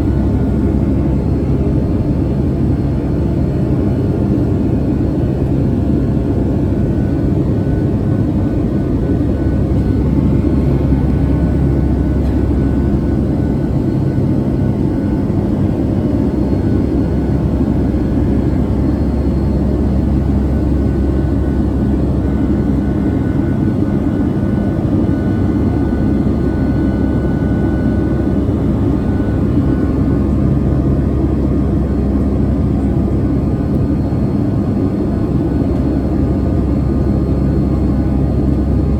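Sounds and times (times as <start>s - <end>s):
airliner engine drone in cabin: 0.0s - 38.9s
faint steady whines: 0.0s - 38.9s.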